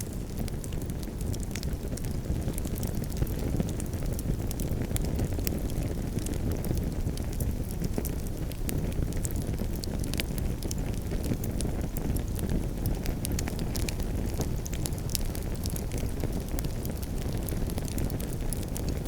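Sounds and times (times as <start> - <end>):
campfire crackling and popping: 0.0 - 19.0
low fire rumble: 0.0 - 19.0.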